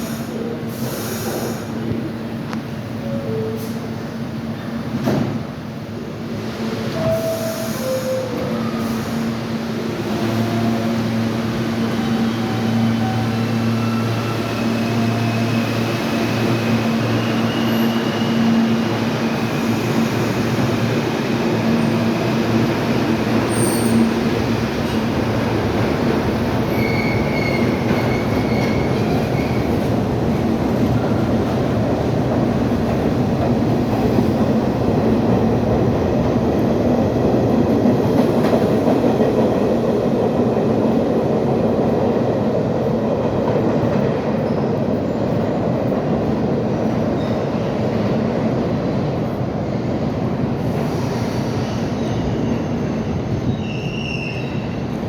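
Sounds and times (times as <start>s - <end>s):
subway traction motors howling: 0.0s - 55.0s.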